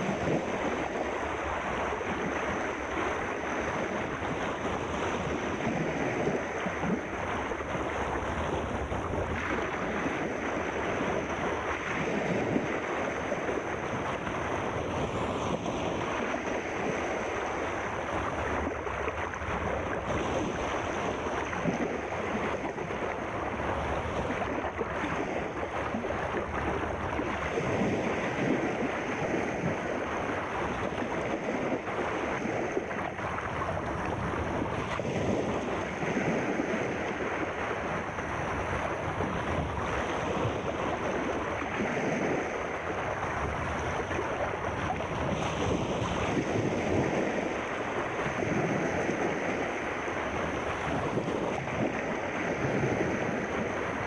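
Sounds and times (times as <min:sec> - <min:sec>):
sea surf washing: 0:00.0 - 0:54.0.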